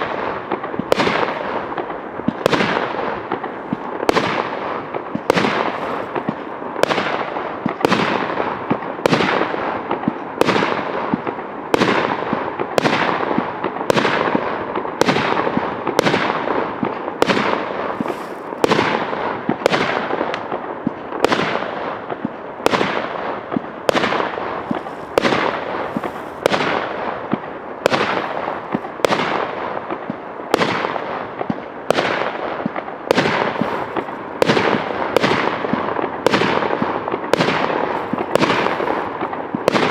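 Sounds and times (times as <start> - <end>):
fireworks bangs with crackling hiss: 0.0 - 39.9.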